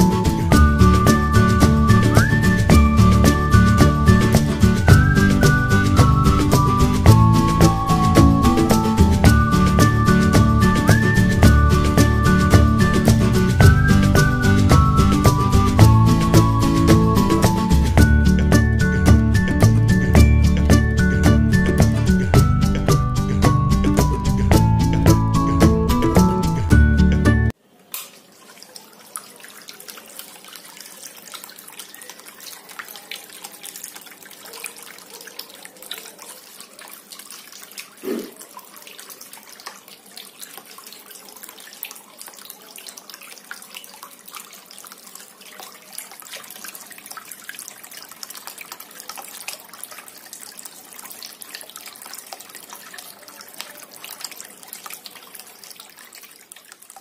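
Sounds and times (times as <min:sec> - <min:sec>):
fine dripping: 0:00.0 - 0:26.6, 0:27.5 - 0:57.0
fountain water trickling: 0:00.0 - 0:57.0.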